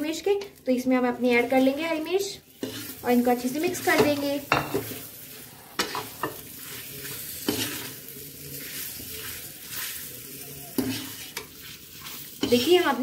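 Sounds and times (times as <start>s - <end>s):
chilies sizzling in hot oil: 0.0s - 13.0s
metal spoon scraping a pan: 1.3s - 13.0s.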